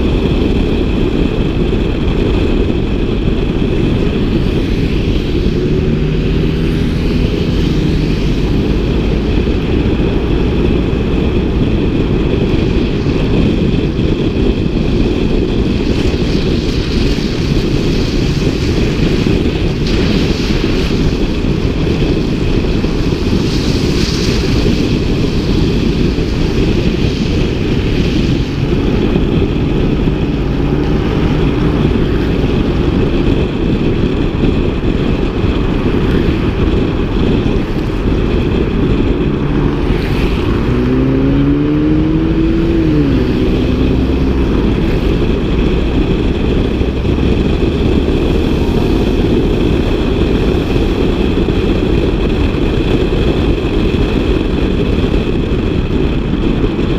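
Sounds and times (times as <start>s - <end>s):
car engine rumbling and revving: 0.0s - 56.9s.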